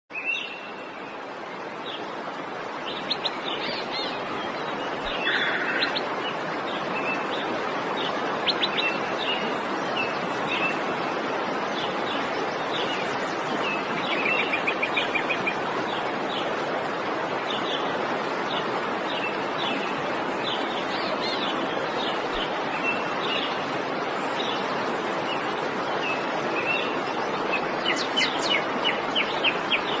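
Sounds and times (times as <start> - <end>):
birds chirping: 0.1 - 30.0
waterfall rushing: 0.2 - 30.0.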